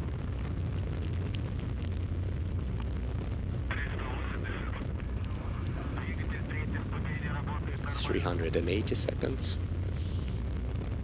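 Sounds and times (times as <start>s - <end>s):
rocket engine rumble: 0.0s - 11.0s.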